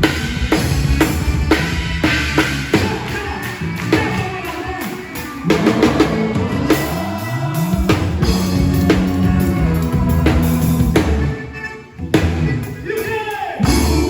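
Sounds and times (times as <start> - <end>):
sliding bass line: 0.0 - 4.6, 5.4 - 12.6, 13.6 - 14.0
band playing: 0.0 - 14.0
drum kit: 0.0 - 14.0.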